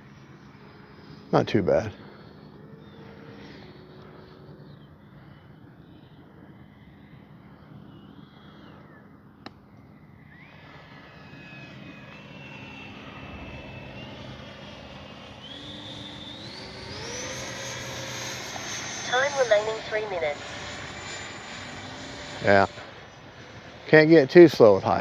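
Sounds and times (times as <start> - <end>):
model jet fan whining: 0.0 - 25.0.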